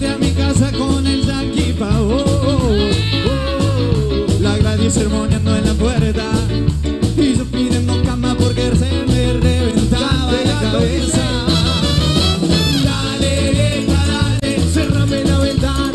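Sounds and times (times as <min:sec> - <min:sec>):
lead vocals singing: 0:00.0 - 0:06.5, 0:07.2 - 0:15.9
live band playing: 0:00.0 - 0:15.9.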